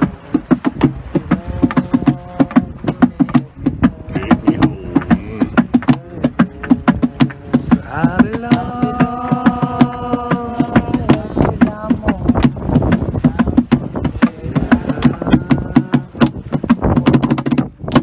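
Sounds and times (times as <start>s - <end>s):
voices singing long notes: 0.0s - 17.4s
fast rhythmic percussion: 0.0s - 18.0s.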